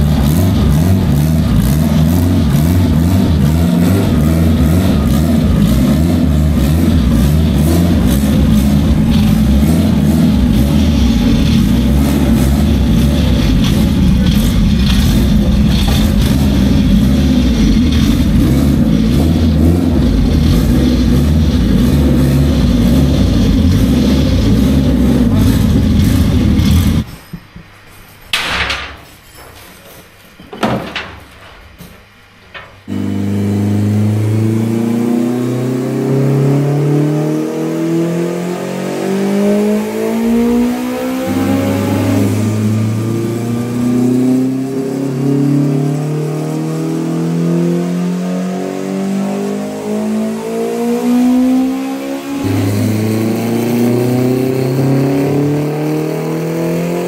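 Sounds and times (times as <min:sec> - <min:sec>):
car engine revving on a dyno: 0:00.0 - 0:27.1, 0:32.9 - 0:57.0.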